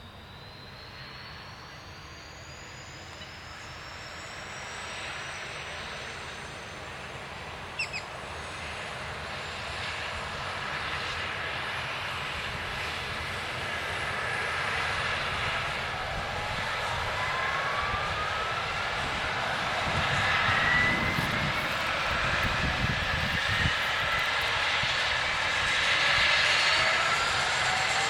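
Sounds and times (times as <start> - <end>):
helicopter turbine whine: 0.0 - 28.0
helicopter rotor turning: 0.2 - 28.0.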